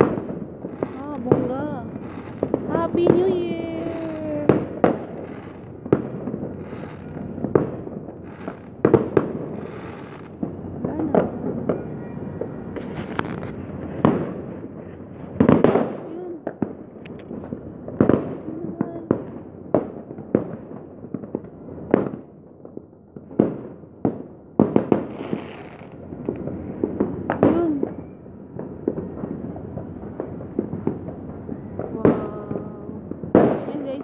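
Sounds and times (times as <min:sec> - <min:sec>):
distant fireworks pops and crackles: 0:00.0 - 0:34.0
fireworks banging: 0:00.0 - 0:34.0.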